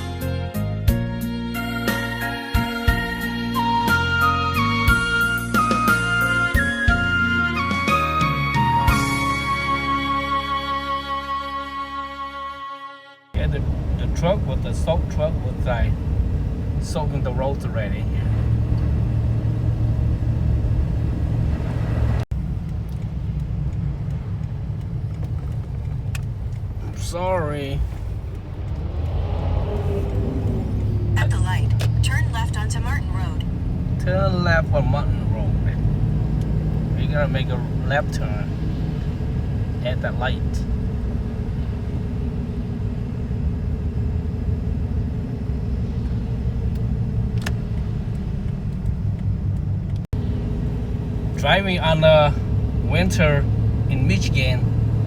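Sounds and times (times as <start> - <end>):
car engine and road noise: 0.0 - 11.4, 13.3 - 55.0.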